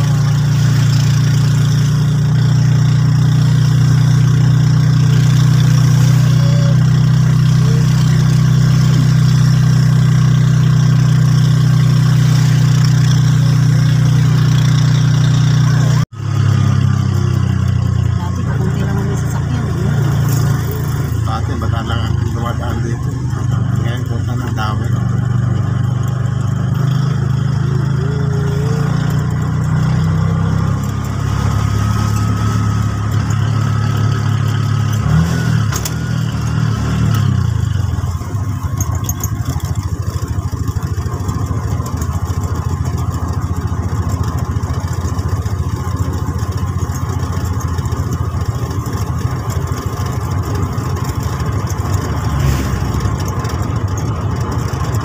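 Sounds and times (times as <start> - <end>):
road noise rushing: 0.0 - 39.8, 46.1 - 55.0
vehicle engine humming: 0.0 - 55.0.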